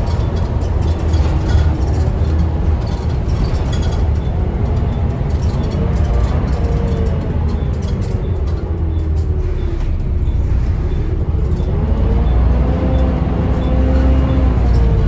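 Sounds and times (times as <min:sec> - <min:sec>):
bus engine rumble: 0:00.0 - 0:15.0
engine whine: 0:00.0 - 0:15.0.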